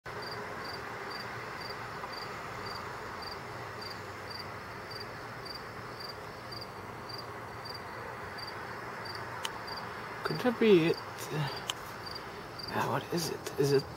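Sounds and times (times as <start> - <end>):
cricket chirping: 0.1 - 13.9
steady hiss: 0.1 - 13.9.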